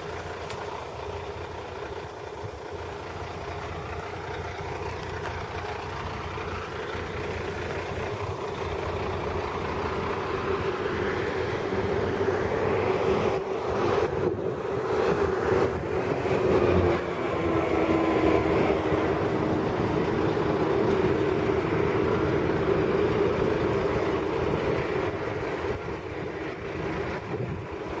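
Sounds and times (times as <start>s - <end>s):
road rumble: 0.0s - 28.0s
vehicle engine drone: 0.0s - 28.0s.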